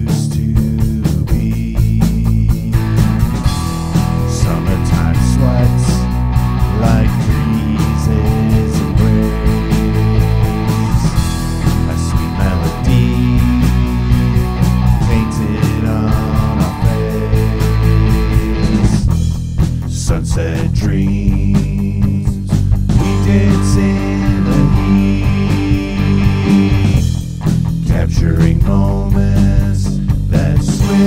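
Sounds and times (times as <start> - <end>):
instrumental guitar rock music: 0.0 - 31.0.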